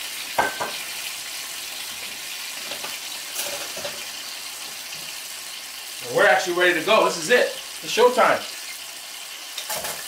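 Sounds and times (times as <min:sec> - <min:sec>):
frying pan sizzling: 0:00.0 - 0:10.0.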